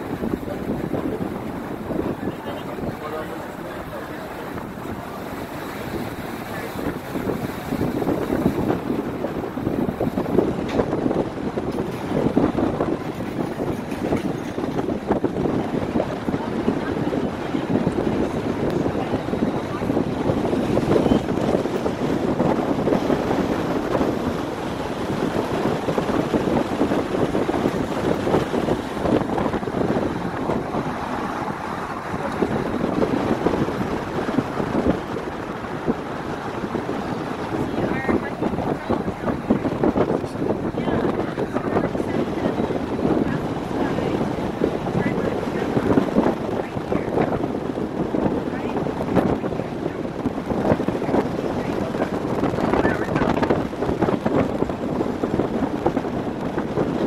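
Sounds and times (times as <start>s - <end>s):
boat engine rumble: 0.0s - 57.0s
wind buffeting microphone: 0.0s - 57.0s.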